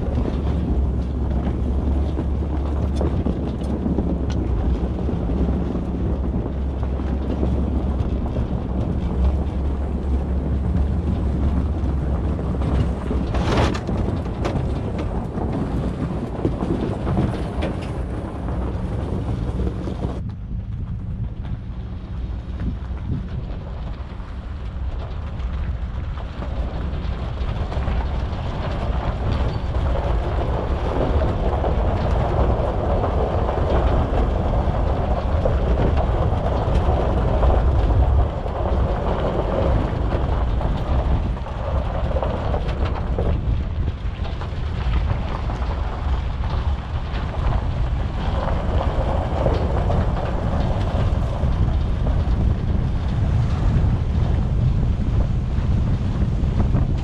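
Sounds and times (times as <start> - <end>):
trailer knocks and rattles: 0.0 - 57.0
truck engine and tyres rumbling: 0.0 - 57.0
wind: 0.0 - 57.0.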